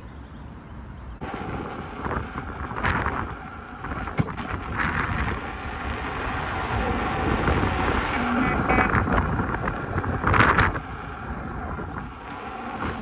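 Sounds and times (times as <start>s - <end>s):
tyre rolling on pavement: 1.2s - 13.0s
wind buffeting microphone: 1.2s - 13.0s.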